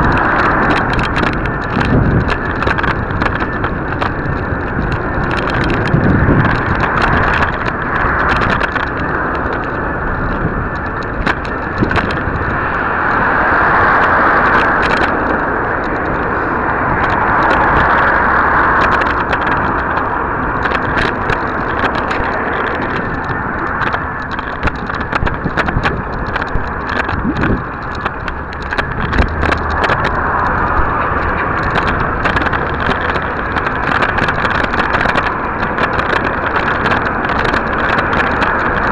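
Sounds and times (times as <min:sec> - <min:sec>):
camera rattling in mount: 0:00.0 - 0:13.2, 0:14.4 - 0:38.9
wind rushing over microphone: 0:00.0 - 0:38.9.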